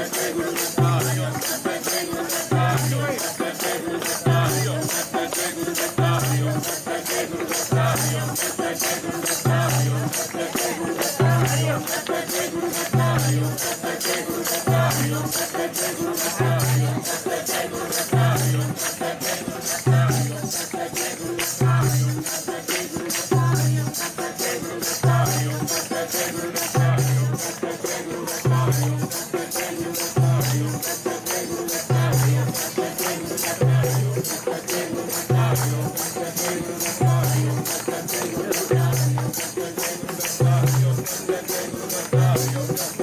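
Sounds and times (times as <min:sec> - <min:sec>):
jingling percussion: 0:00.0 - 0:43.0.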